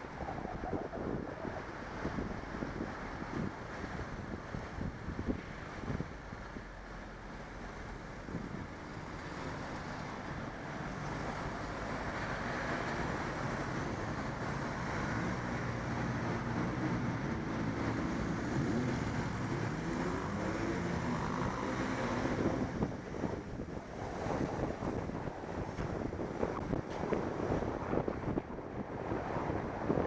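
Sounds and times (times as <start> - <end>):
wind rushing over microphone: 0.0 - 6.8, 7.7 - 30.0
road traffic: 0.0 - 30.0.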